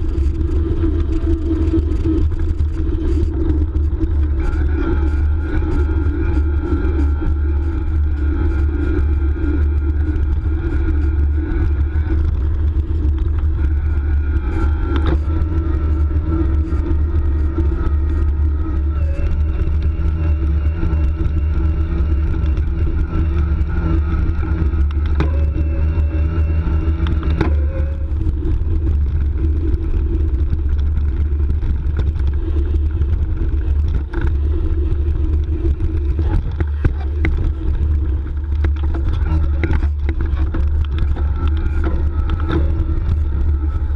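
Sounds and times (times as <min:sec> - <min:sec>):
electric motor whine: 0:00.0 - 0:43.9
wind rumbling on microphone: 0:00.0 - 0:43.9.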